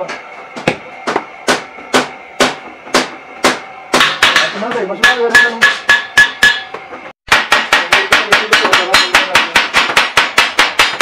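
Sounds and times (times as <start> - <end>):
hammer on sheet metal: 1.1 - 11.0.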